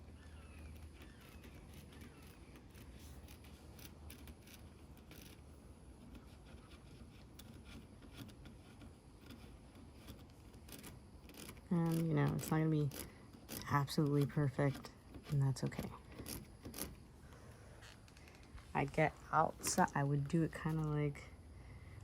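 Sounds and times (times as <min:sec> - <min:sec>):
faint handling clicks and scrapes: 0:00.0 - 0:21.4.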